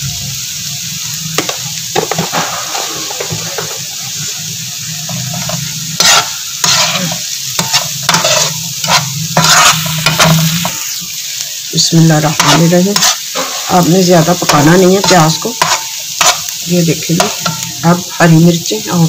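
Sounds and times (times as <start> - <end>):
egg and onion sizzling in oil: 0.0 - 19.0
spatula scraping a pan: 1.4 - 11.1, 12.3 - 18.2.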